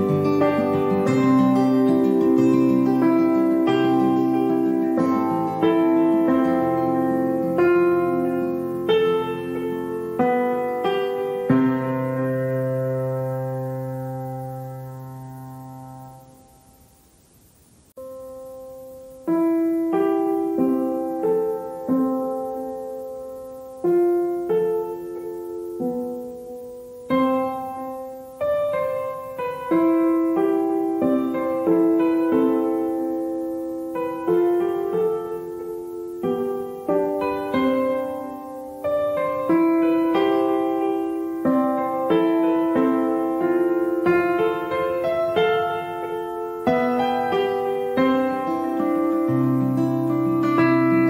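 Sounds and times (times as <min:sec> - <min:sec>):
gentle piano melody: 0:00.0 - 0:17.0, 0:17.9 - 0:51.0.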